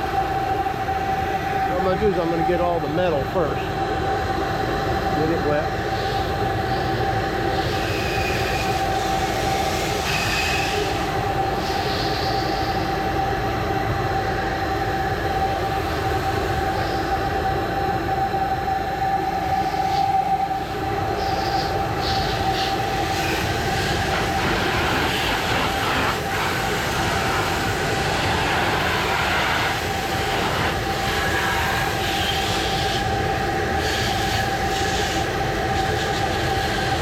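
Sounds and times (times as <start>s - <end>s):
pressure washer whine: 0.0s - 14.2s, 15.0s - 37.0s.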